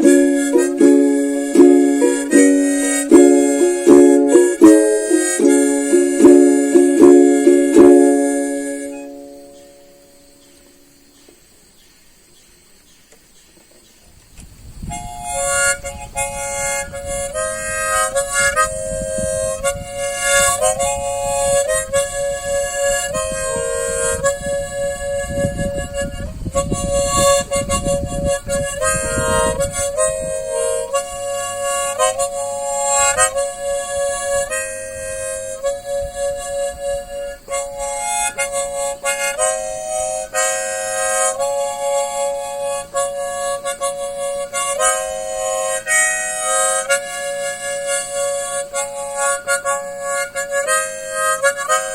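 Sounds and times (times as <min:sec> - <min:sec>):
harmonica slow melody: 0:00.0 - 0:11.3, 0:14.8 - 0:51.9.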